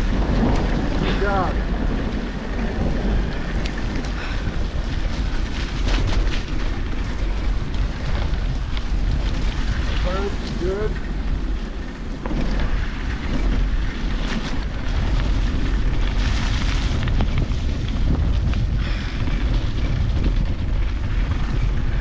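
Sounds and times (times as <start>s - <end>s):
bike knocks and rattles: 0.0s - 22.0s
wind buffeting microphone: 0.0s - 22.0s.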